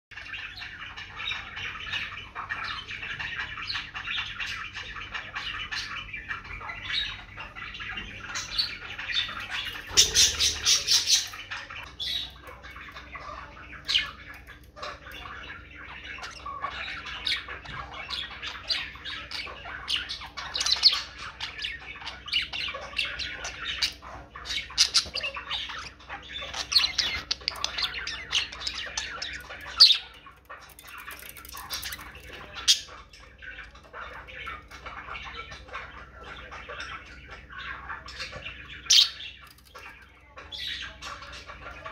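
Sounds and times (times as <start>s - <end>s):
budgerigars chattering and warbling: 0.1s - 41.9s
harsh bird squawks: 0.2s - 41.9s.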